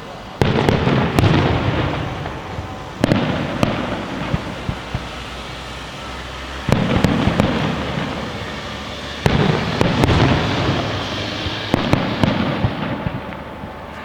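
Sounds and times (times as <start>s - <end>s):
rumbling crackling tail: 0.4s - 14.0s
firework shell bursts: 0.5s - 14.0s.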